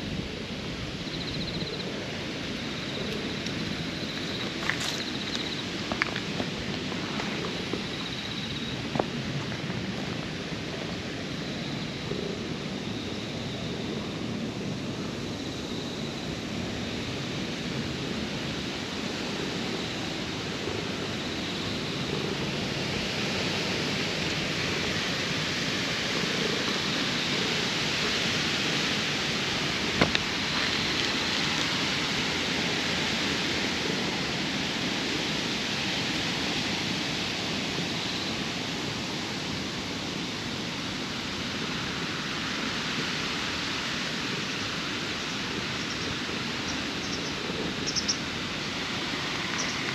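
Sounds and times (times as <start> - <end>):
steady outdoor hiss: 0.0 - 49.9.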